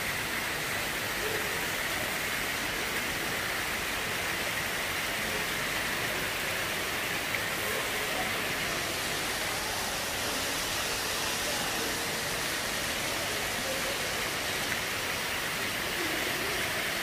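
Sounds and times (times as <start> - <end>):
waterfall splashing into pool: 0.0 - 17.0.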